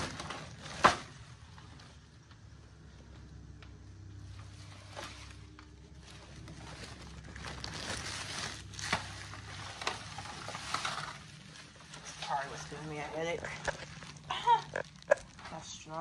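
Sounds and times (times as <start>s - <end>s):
plastic bag rustling: 0.0s - 2.1s, 4.2s - 16.0s
low steady hum: 0.0s - 16.0s.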